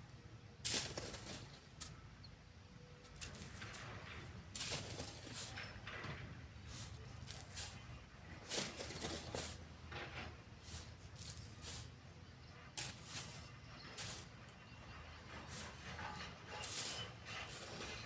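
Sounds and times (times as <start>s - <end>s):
sand shovelled and sifted: 0.6s - 2.1s, 3.0s - 18.0s.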